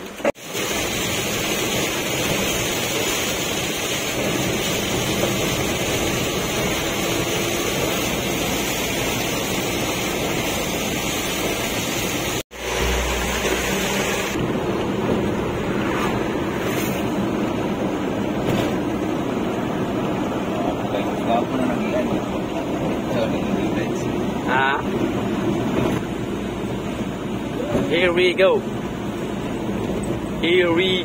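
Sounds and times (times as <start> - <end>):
heavy rain on vehicle cab: 0.0 - 31.0
tyre and road noise: 0.0 - 31.0.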